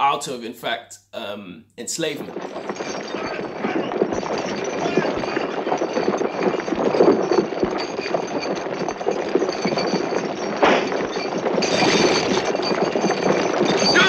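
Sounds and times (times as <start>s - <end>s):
crowd footsteps: 1.8s - 14.0s
horse hooves on dirt: 2.2s - 14.0s.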